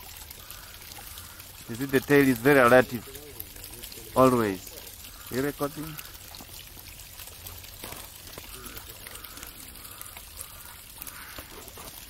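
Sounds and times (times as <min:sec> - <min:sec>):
outdoor background hiss: 0:00.0 - 0:11.9.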